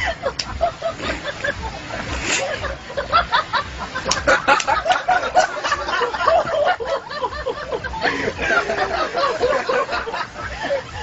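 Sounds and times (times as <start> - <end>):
people laughing and snickering: 0.0 - 11.0
voices: 0.0 - 11.0.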